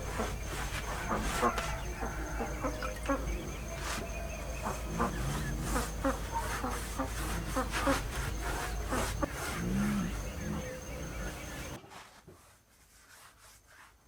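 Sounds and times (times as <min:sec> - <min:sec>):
chickens clucking: 0:00.0 - 0:11.8.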